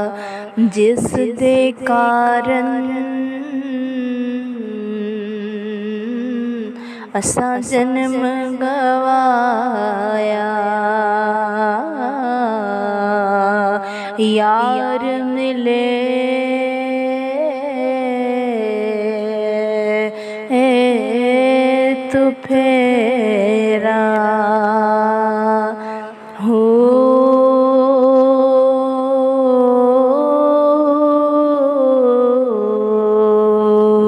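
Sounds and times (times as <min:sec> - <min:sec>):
woman singing long notes: 0:00.0 - 0:34.0.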